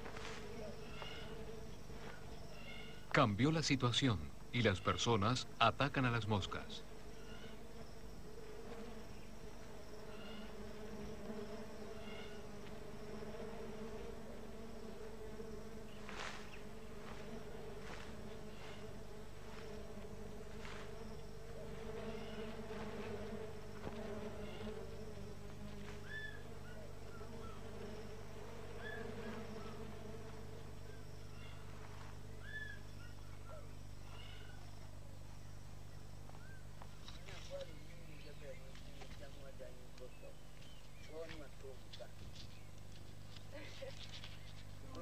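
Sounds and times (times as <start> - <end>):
swarm of flies buzzing: 0.0 - 45.0.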